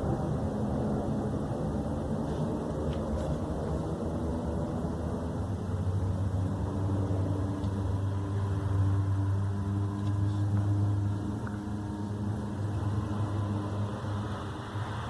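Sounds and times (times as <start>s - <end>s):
low humming drone: 0.0s - 15.0s.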